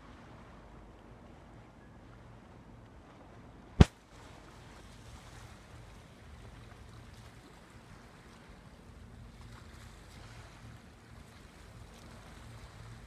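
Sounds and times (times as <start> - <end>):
calm sea lapping at rocky shore: 0.0 - 13.0.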